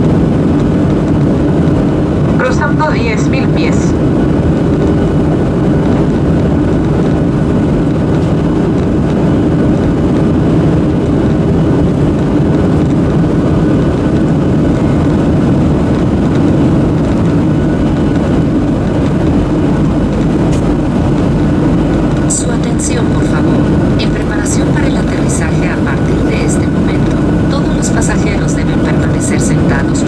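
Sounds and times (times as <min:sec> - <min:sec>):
airflow rush in cabin: 0:00.0 - 0:30.0
faint steady hum: 0:00.0 - 0:30.0
jet engines droning: 0:00.0 - 0:30.0.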